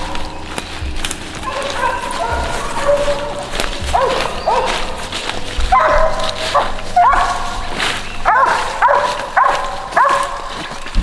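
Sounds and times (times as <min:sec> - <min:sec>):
dog barking: 0:01.4 - 0:10.8.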